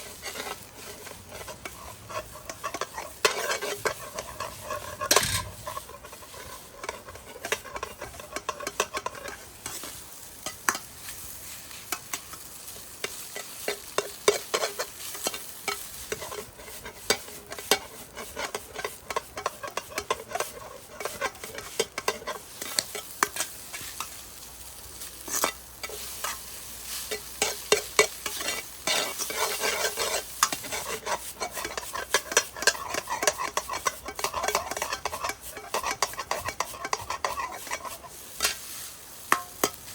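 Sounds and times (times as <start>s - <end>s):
rice sizzling in a pan: 0.0s - 39.9s
spatula scraping a pan: 0.0s - 39.9s.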